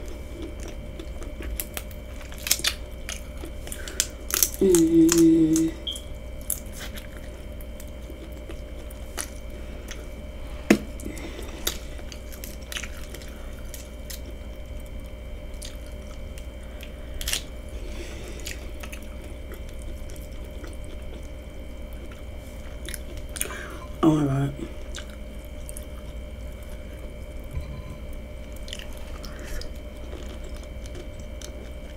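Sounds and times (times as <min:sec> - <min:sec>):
quiet chewing: 0:00.0 - 0:23.7, 0:24.7 - 0:31.9
faint steady hum: 0:00.0 - 0:31.9.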